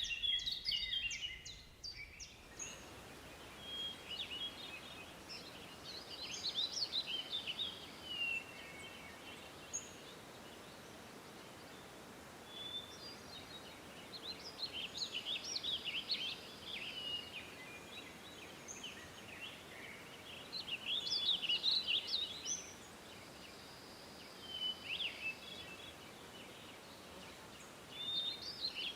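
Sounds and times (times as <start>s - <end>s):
bird chirping: 0.0s - 10.2s, 12.5s - 28.9s
steady background hiss: 0.0s - 28.9s.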